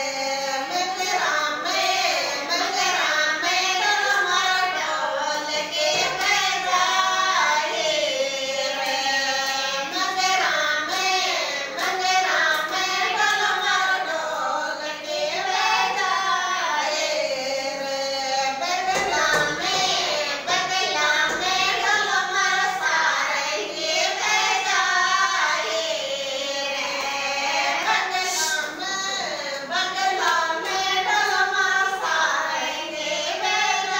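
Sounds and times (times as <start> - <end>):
women singing folk song: 0.0 - 33.9.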